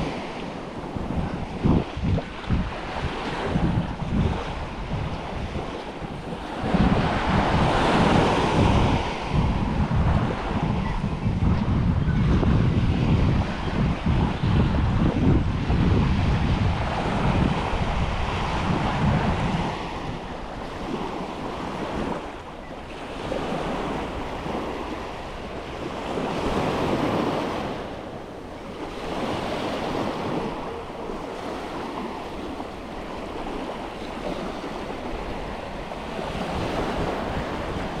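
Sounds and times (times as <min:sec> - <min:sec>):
waves breaking on a sandy beach: 0:00.0 - 0:38.0
wind buffeting the microphone: 0:00.0 - 0:38.0.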